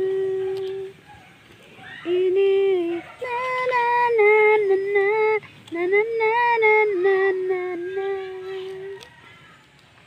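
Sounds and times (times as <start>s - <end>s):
woman singing slow song: 0.0s - 1.1s, 2.0s - 9.2s.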